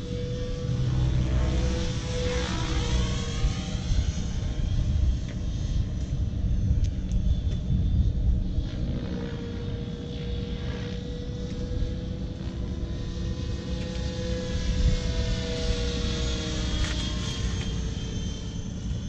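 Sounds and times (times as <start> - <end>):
model helicopter whine: 0.0 - 19.0.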